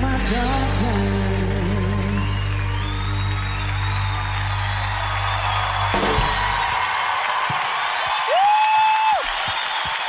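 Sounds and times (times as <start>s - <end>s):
audience cheering and whooping: 1.9s - 10.0s.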